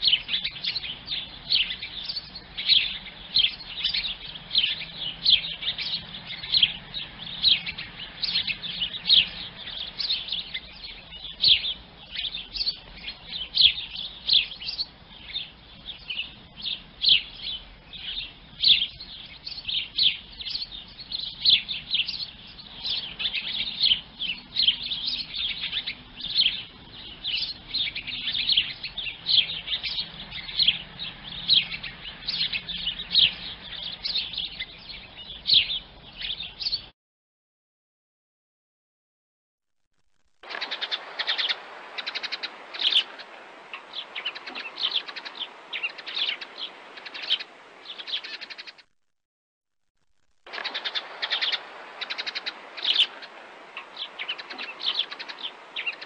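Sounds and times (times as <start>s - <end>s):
sparrows chirping: 0.0s - 36.9s, 40.5s - 48.8s, 50.5s - 56.0s.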